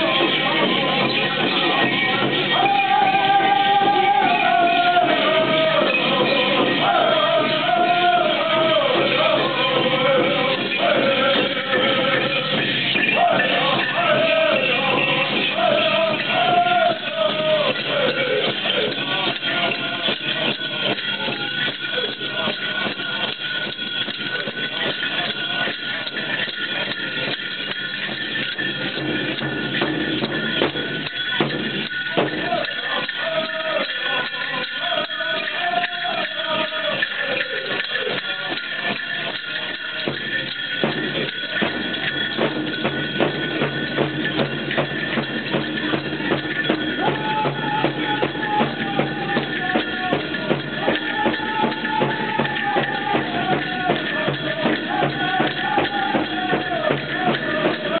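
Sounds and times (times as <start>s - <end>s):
jingling bells: 0.0s - 58.0s
large drum beat: 0.0s - 58.0s
singers' high held notes: 0.0s - 58.0s.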